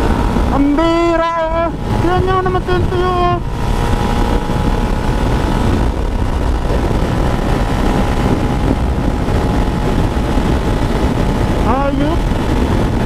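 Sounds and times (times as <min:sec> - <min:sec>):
motorcycle engine cruising: 0:00.0 - 0:13.0
wind rushing over microphone: 0:00.0 - 0:13.0.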